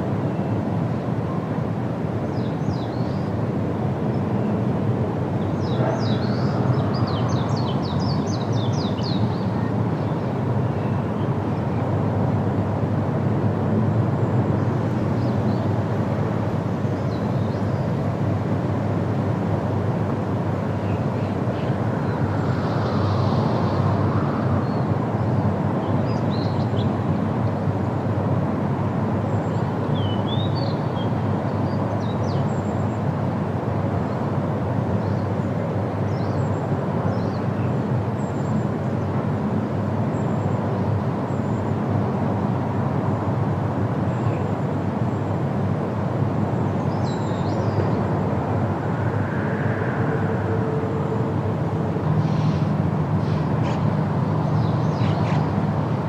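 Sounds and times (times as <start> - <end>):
wind rushing through leaves: 0.0 - 56.0.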